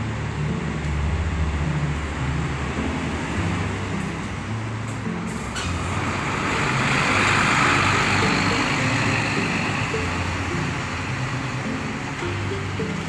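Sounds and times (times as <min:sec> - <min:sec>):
background music: 0:00.0 - 0:13.0
bus driving off: 0:00.0 - 0:13.0.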